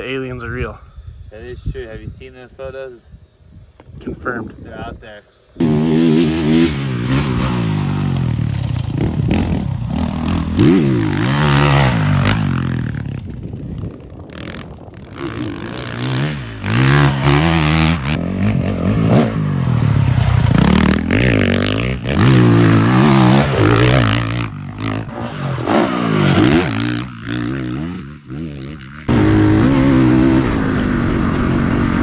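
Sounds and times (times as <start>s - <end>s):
dirt bike engines revving: 5.5s - 32.0s.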